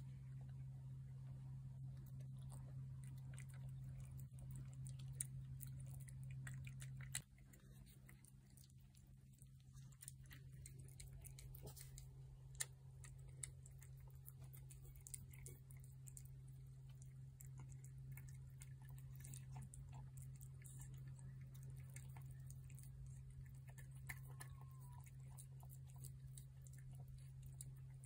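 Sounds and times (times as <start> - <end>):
cats chewing and lapping food: 0.0 - 28.0
low steady hum: 0.0 - 28.0.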